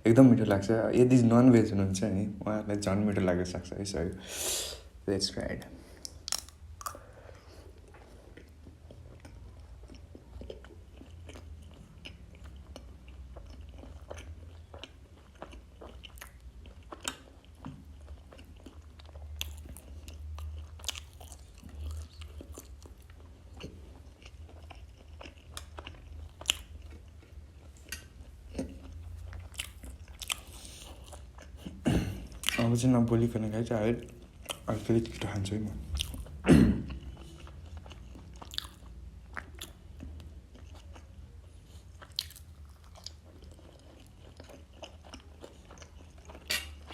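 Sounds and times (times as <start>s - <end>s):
person chewing food: 5.8s - 32.7s, 34.0s - 46.9s.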